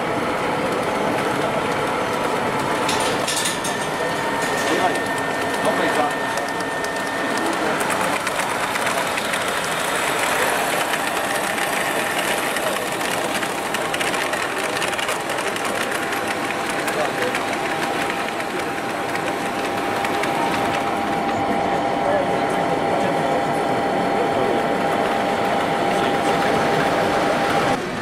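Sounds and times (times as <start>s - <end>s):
indistinct chatter in a large hall: 0.0s - 28.0s
model trains running on track: 0.0s - 28.0s.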